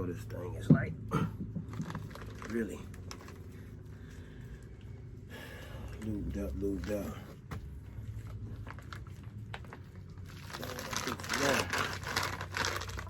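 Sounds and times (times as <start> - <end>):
gloved hands rustling and smearing: 1.6 - 13.0.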